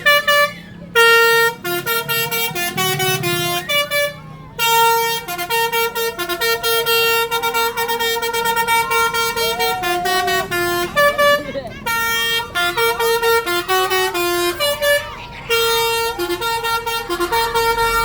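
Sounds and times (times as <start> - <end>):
musical bus horn playing a tune: 0.0 - 18.0.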